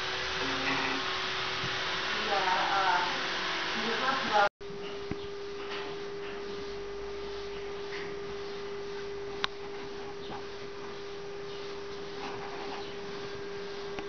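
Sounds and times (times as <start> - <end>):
steady one-tone hum: 0.0 - 14.0.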